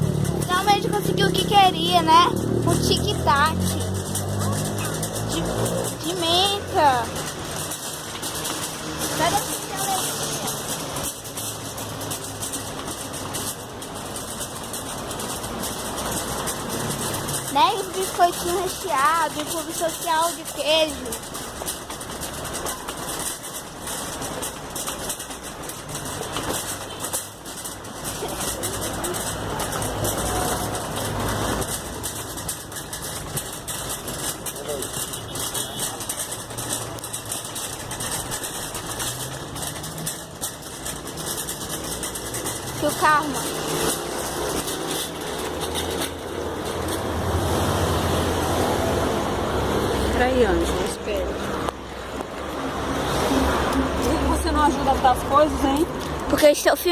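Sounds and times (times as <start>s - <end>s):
background noise: 0.0s - 56.9s
engine humming: 0.0s - 56.9s.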